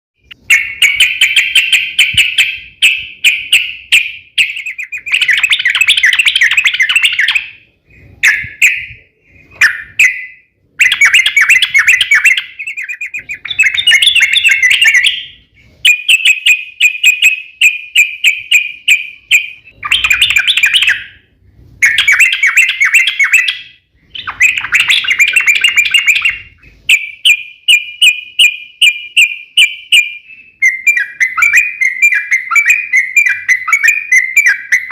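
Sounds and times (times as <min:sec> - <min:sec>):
bulbul chattering song: 0:00.2 - 0:34.9.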